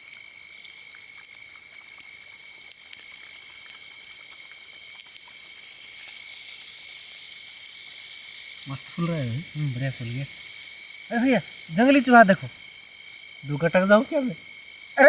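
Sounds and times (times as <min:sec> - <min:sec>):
food frying in hot oil: 0:00.0 - 0:11.7, 0:12.6 - 0:13.5, 0:14.4 - 0:15.0
crickets trilling: 0:00.0 - 0:15.0.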